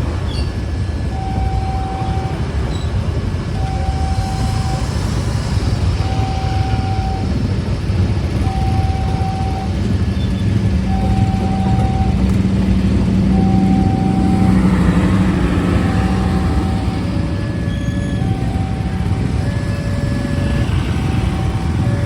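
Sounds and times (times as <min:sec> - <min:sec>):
crossing alarm beeping: 0:00.0 - 0:22.0
vehicle rumble: 0:00.0 - 0:22.0.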